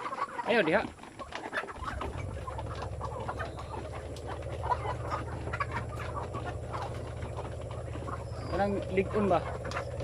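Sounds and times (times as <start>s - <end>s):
chickens clucking: 0.0s - 10.0s
steady low rumble: 1.8s - 10.0s.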